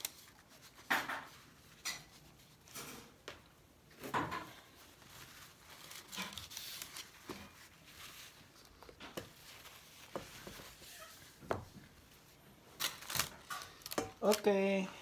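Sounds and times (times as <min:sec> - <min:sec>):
parchment paper crinkling: 0:00.0 - 0:03.2, 0:04.5 - 0:14.9.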